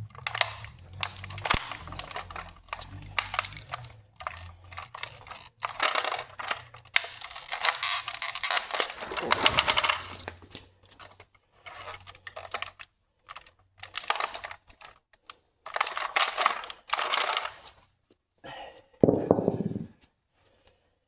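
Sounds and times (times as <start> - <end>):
toy car cracking underfoot: 0.0 - 17.8.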